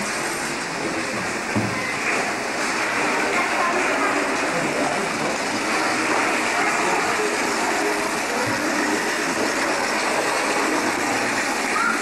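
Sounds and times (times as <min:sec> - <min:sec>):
crowd hubbub: 0:00.0 - 0:12.0.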